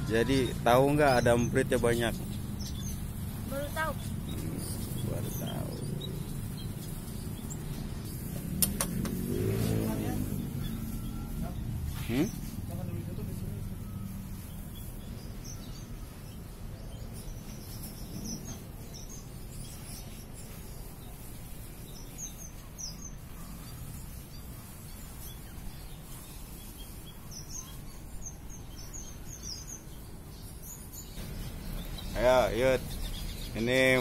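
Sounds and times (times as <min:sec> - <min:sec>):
small finches chirping: 0:00.0 - 0:34.0.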